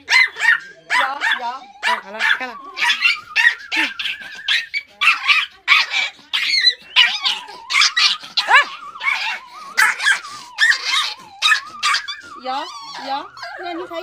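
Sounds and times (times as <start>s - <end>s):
puppy yapping: 0.0s - 13.8s.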